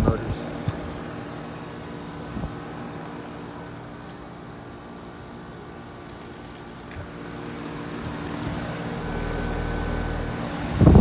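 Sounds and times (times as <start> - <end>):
heat pump units humming: 0.0 - 11.0.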